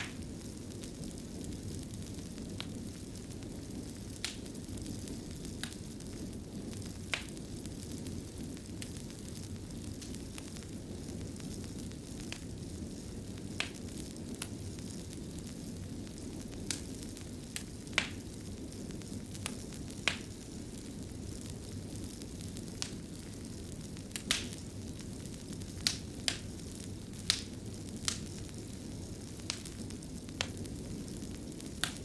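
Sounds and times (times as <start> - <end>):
log fire crackling and popping: 0.0 - 32.0
low fire rumble: 0.0 - 32.0.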